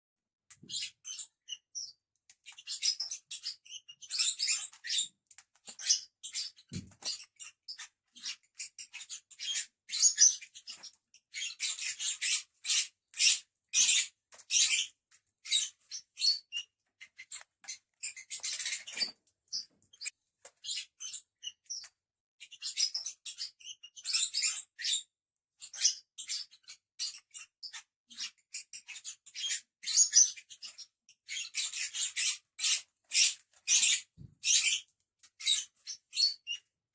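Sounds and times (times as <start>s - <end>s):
lovebirds chirping: 0.6s - 21.9s, 25.6s - 36.6s.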